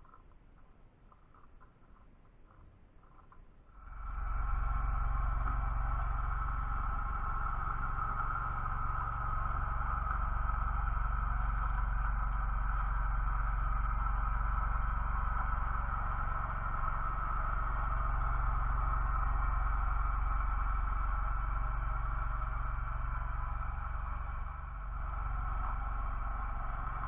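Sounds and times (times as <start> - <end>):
motor machine droning hum: 0.0 - 27.0.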